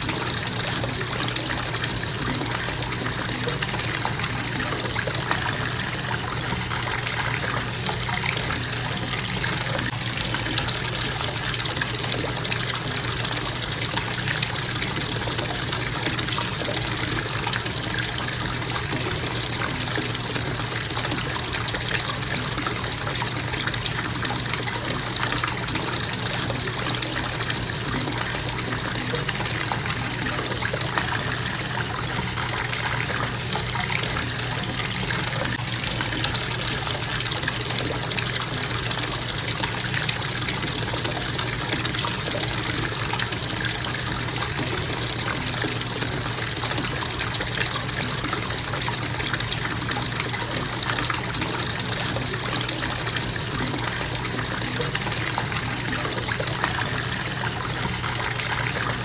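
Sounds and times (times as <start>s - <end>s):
faucet water splashing into tub: 0.0s - 59.0s.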